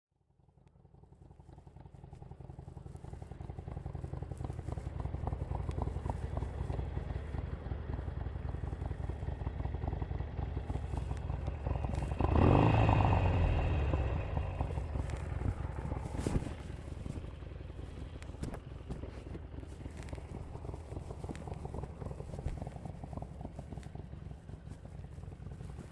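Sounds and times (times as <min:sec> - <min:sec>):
motorcycle engine rumbling: 0:00.8 - 0:25.9.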